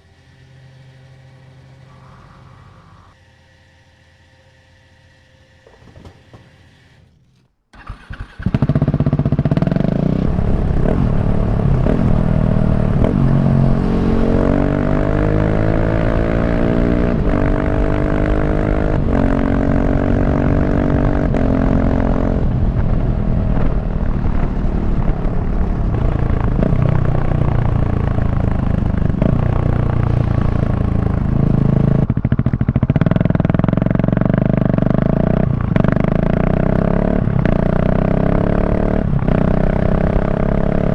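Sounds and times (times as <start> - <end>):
motorcycle engine revving: 5.6 - 40.9.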